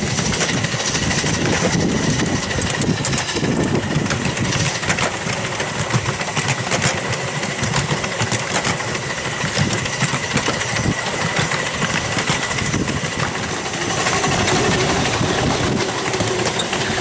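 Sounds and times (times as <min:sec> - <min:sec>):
steam locomotive exhaust chuffing: 0:00.0 - 0:17.0
wheels clattering on rails: 0:00.0 - 0:17.0.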